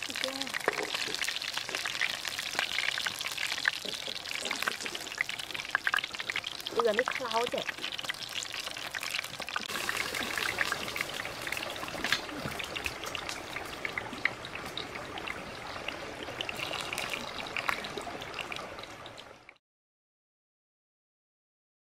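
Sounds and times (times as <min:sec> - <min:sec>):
hot oil sizzling: 0:00.0 - 0:19.4
oil crackles and pops: 0:00.0 - 0:19.6.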